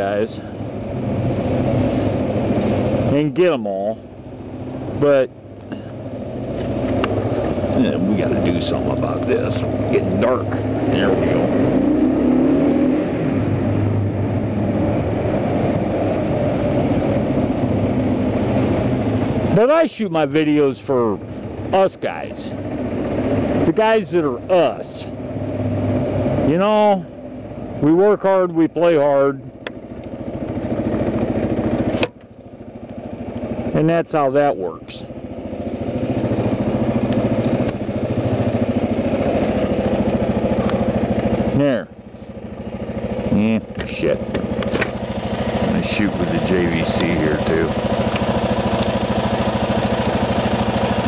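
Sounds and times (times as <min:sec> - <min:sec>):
motorcycle engine running: 0:00.0 - 0:51.0
road and wind noise: 0:00.0 - 0:51.0.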